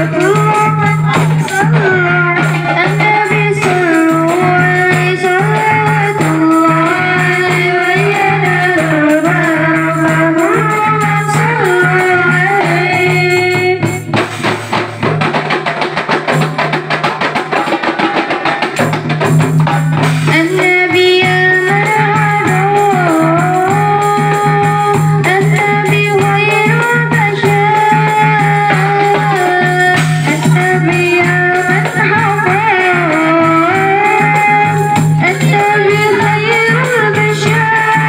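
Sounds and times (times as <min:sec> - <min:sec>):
hand drums: 0:00.0 - 0:38.0.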